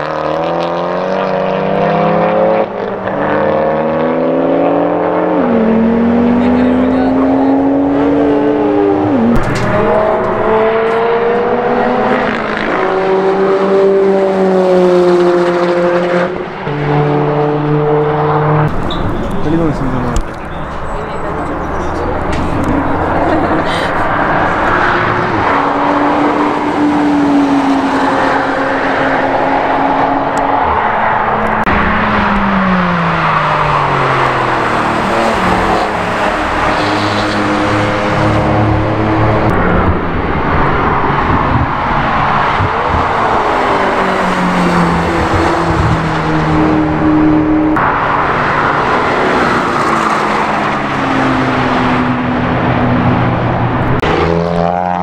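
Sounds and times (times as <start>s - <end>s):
race cars passing at speed: 0.0s - 55.0s.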